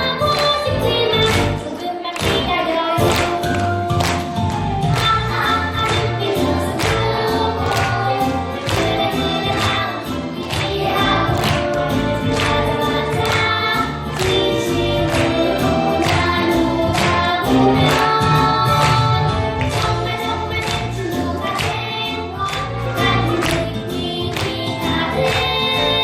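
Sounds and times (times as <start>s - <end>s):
children's choir singing: 0.0s - 26.0s
musical accompaniment with beat: 0.0s - 26.0s.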